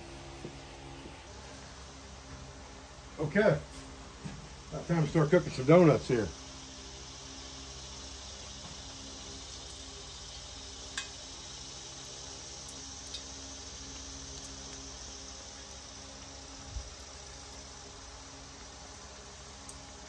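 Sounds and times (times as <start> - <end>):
hot oil hissing: 0.0 - 20.0.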